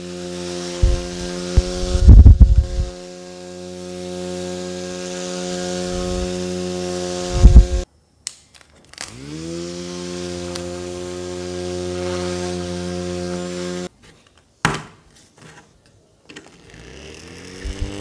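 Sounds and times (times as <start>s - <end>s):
handheld fan motor whine: 0.0s - 7.9s, 8.9s - 13.9s, 16.3s - 18.0s.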